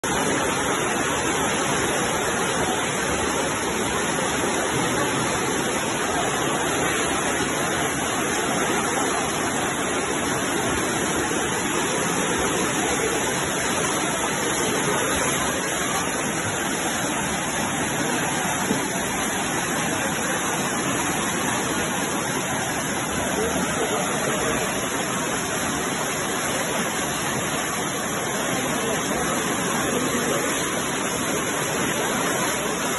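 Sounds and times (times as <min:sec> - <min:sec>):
floodwater rushing down street: 0:00.0 - 0:32.9.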